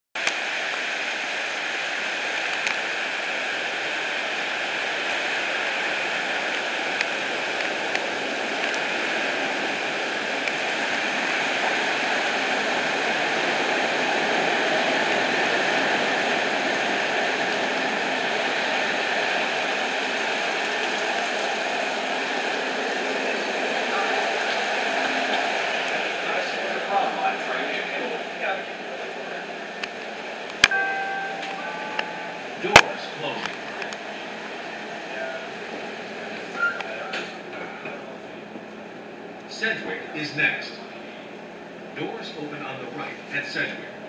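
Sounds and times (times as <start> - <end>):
heavy rain pouring: 0.2 - 38.9.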